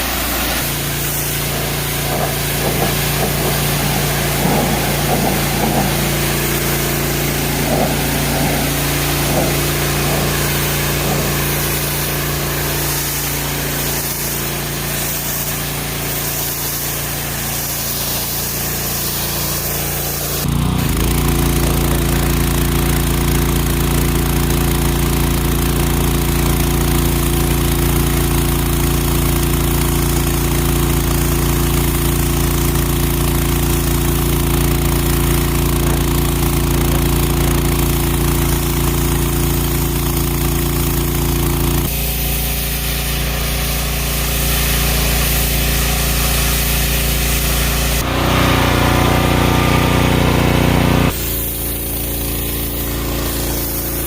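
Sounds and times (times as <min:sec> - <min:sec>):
pressure washer engine running: 0:00.0 - 0:54.0
water spray hissing: 0:00.0 - 0:54.0.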